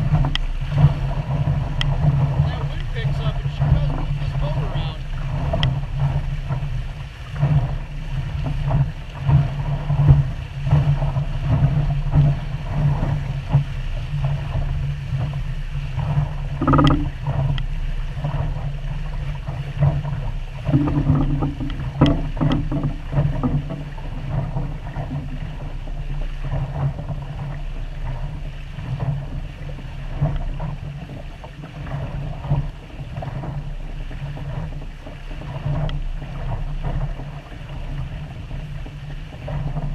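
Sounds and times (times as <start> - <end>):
water lapping against hull: 0.0 - 39.9
wind buffeting microphone: 0.0 - 39.9.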